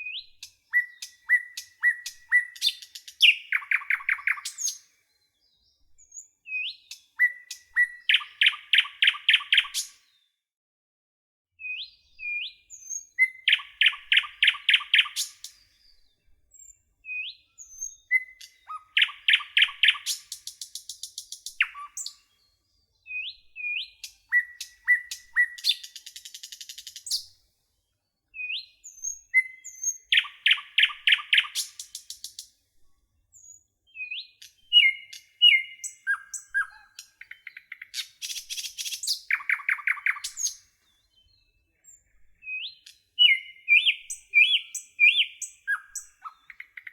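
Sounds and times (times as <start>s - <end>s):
songbirds chirping and trilling: 0.0s - 10.4s, 11.6s - 46.9s.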